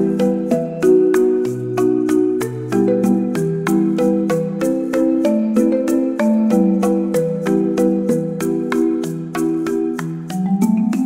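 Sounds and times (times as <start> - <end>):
held chords: 0.0 - 11.0
light melody of struck notes: 0.0 - 11.0.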